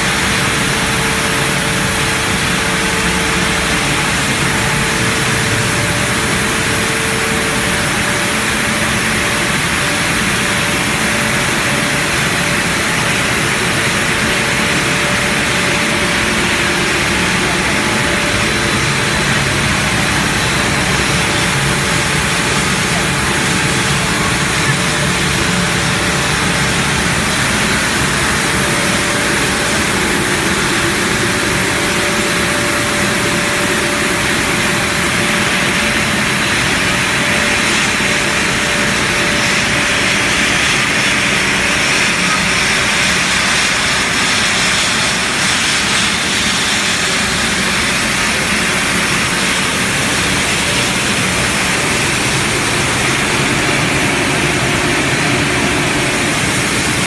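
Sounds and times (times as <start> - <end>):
loud machinery noise: 0.0 - 57.0.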